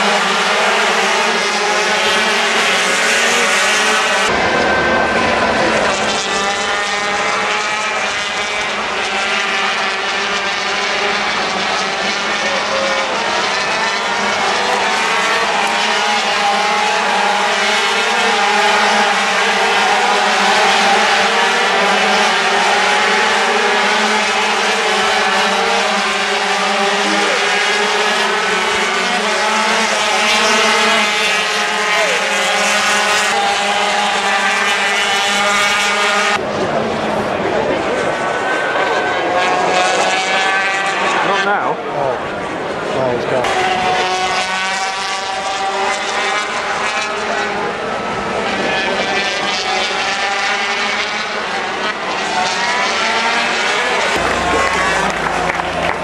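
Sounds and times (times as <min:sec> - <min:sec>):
racing motorcycles at high revs: 0:00.0 - 0:56.0.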